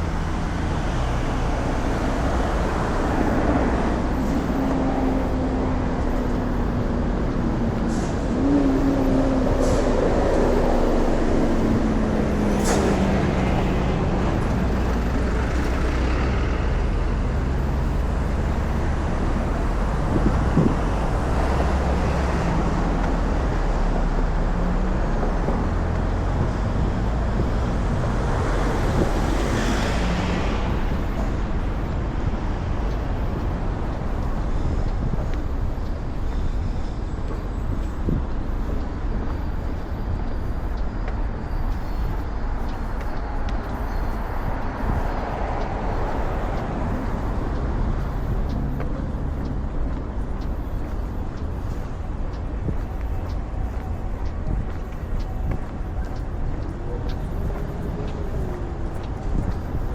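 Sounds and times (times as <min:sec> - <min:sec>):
traffic engines rumbling: 0:00.0 - 0:59.9.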